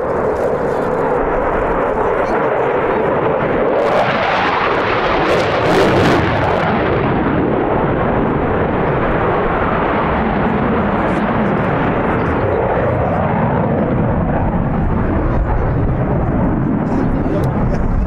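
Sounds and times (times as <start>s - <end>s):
jet engines in afterburner: 0.0s - 18.0s.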